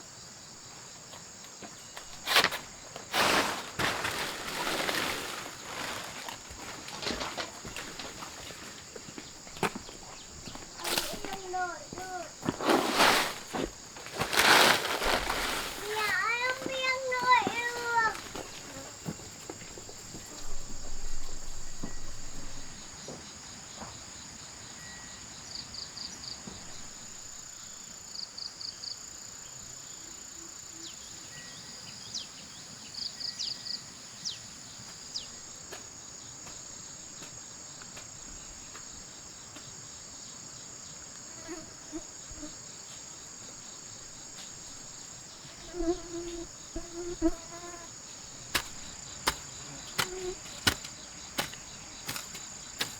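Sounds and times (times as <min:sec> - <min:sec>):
crickets droning: 0:00.0 - 0:52.9
rapid insect chirps: 0:00.0 - 0:52.9
rustle: 0:00.0 - 0:52.9.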